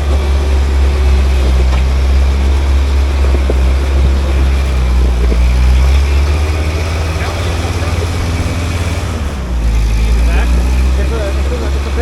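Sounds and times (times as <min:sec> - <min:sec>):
off-road vehicle engine drone: 0:00.0 - 0:12.0.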